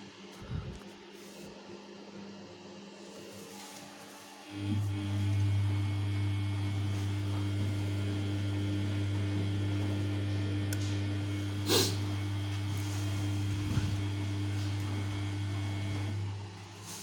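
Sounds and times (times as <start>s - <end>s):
washing machine electrical hum: 0.0s - 17.0s.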